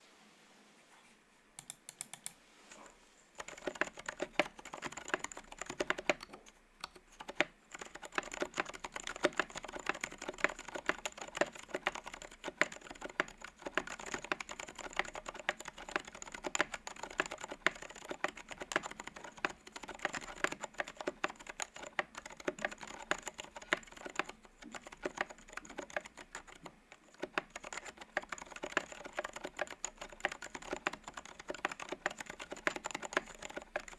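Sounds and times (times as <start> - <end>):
mechanical keyboard typing: 1.6 - 2.4, 3.4 - 33.9.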